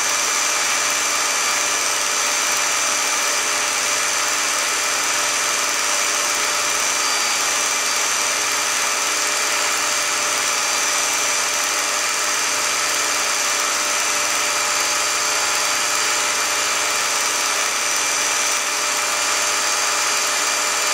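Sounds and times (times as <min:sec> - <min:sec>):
film projector whirring: 0:00.0 - 0:20.9.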